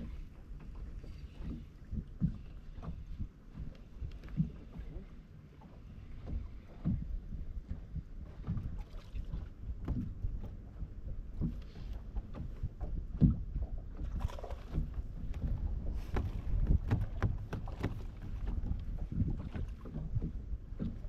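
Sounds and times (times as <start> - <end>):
water slapping boat hull: 0.0 - 21.0
wind rumble on microphone: 0.0 - 21.0.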